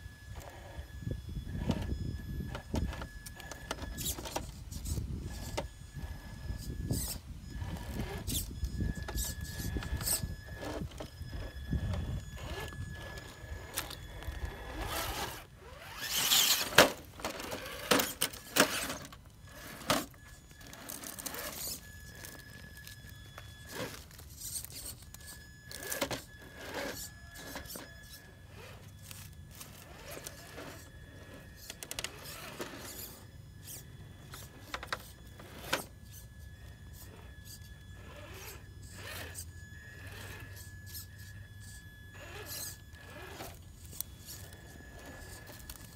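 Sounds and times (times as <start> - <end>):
electric motor whine: 0.0 - 45.9.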